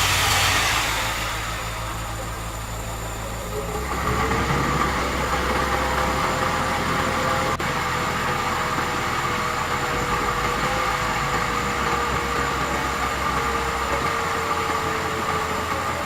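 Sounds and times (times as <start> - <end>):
petrol engine running: 0.0 - 16.0.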